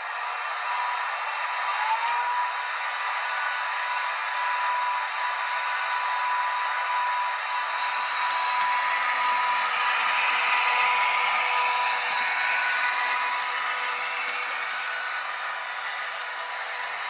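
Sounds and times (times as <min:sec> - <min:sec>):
model locomotive engine whirr: 0:00.0 - 0:17.0.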